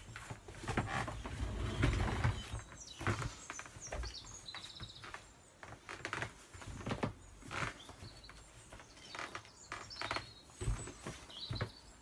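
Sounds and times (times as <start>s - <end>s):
clothes rustling: 0.0s - 12.0s.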